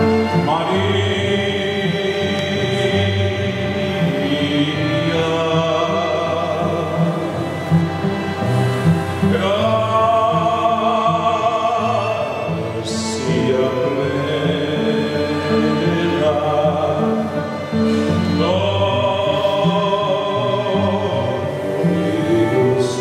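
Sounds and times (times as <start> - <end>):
low instrumental accompaniment: 0.0 - 23.0.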